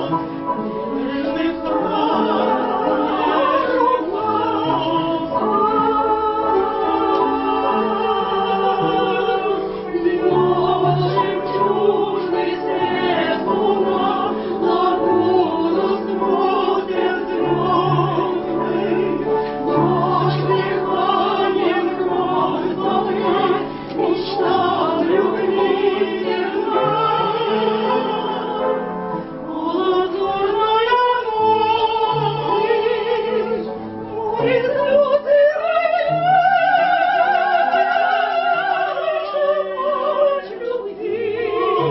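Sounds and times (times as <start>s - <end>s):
instrumental accompaniment: 0.0s - 41.9s
operatic vocal ensemble singing: 0.0s - 41.9s.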